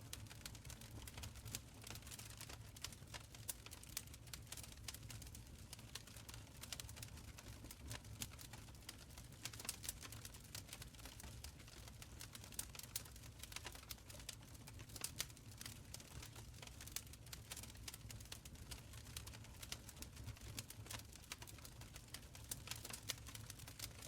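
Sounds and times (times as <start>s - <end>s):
fire crackling and popping: 0.1s - 24.0s.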